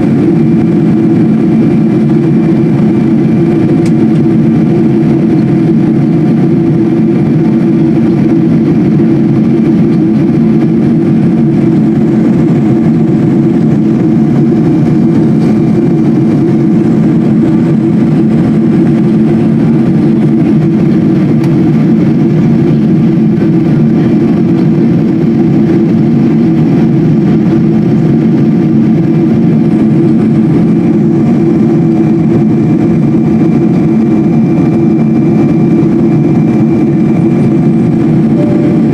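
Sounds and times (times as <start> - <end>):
jet engine drone in cabin: 0.0 - 38.9
steady hum tones: 0.0 - 38.9.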